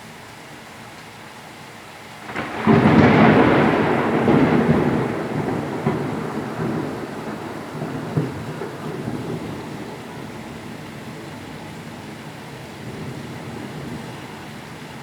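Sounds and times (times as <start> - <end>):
steady rain: 0.0 - 15.0
thunderclap rumbling: 2.3 - 14.4.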